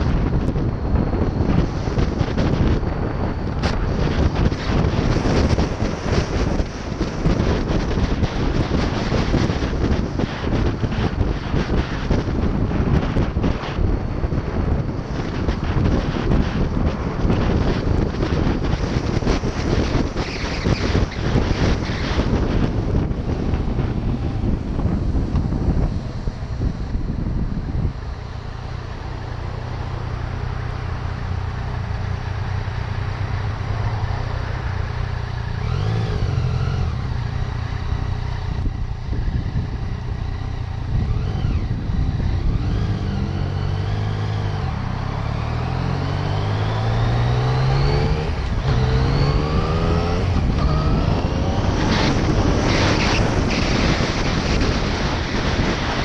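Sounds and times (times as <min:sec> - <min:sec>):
motorcycle engine revving: 0:00.0 - 0:56.0
wind buffeting microphone: 0:00.0 - 0:56.0.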